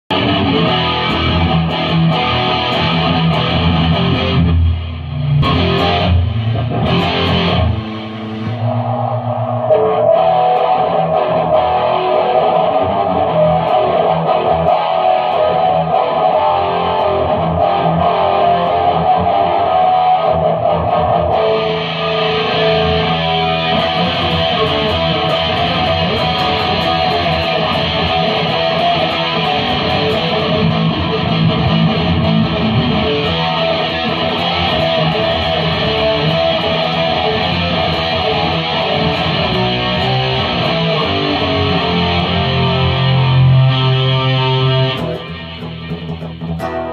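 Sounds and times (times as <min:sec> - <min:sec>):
electric guitar through effects: 0:00.0 - 0:46.9.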